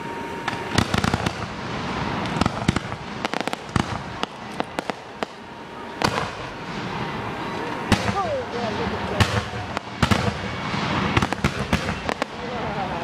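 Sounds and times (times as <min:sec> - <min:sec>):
fireworks bangs and crackles: 0:00.1 - 0:13.0.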